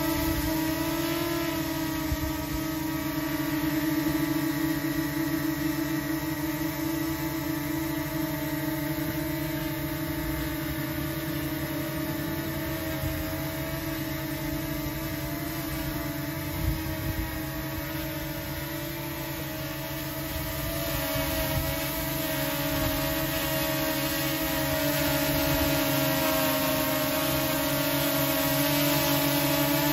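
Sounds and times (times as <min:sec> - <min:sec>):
drone propellers buzzing: 0:00.0 - 0:29.9.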